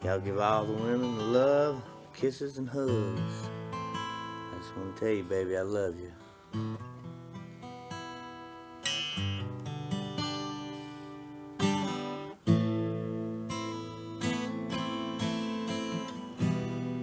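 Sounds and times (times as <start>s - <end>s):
strummed guitar chords: 0.0s - 17.0s.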